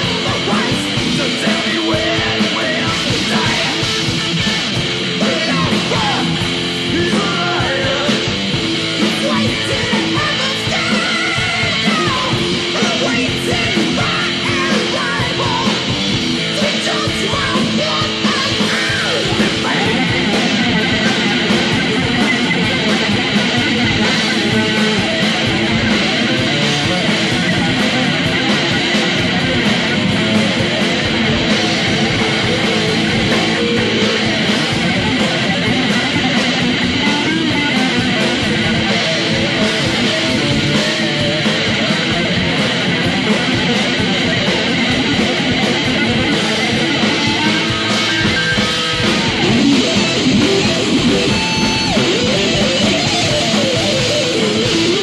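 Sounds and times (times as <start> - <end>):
distorted electric guitars: 0.0 - 55.0
drums: 0.0 - 55.0
thrash metal music: 0.0 - 55.0.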